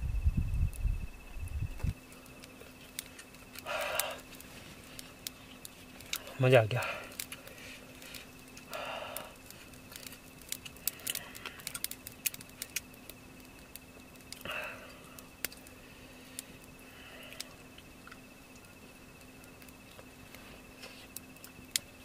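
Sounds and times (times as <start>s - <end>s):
insect trill: 0.0s - 22.0s.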